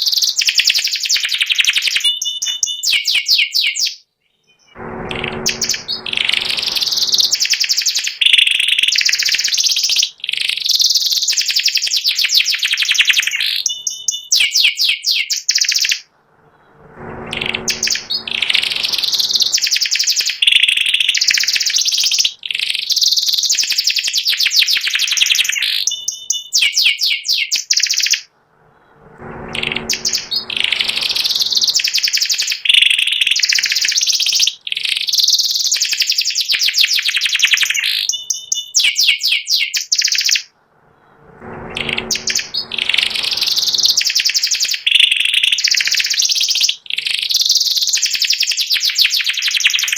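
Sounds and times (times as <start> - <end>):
canary singing trills: 0.0 - 16.0, 17.3 - 28.3, 29.5 - 40.5, 41.8 - 49.9.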